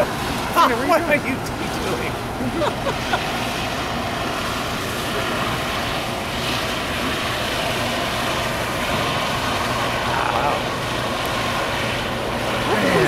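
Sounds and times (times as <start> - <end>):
gas venting rushing noise: 0.0 - 13.0.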